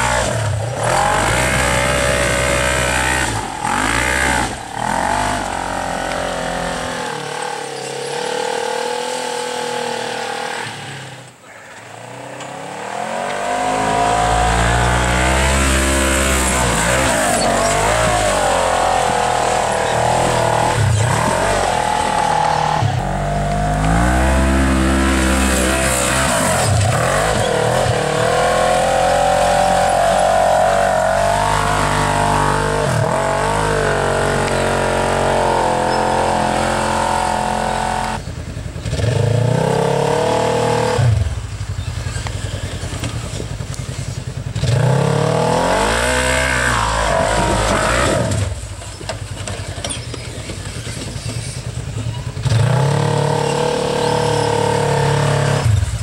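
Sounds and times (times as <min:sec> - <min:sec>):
buggy engine revving hard: 0:00.0 - 0:56.0.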